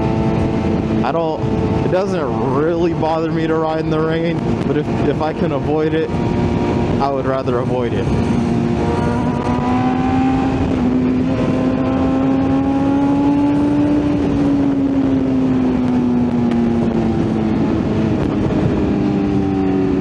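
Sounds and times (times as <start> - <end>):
wind noise rushing: 0.0 - 20.0.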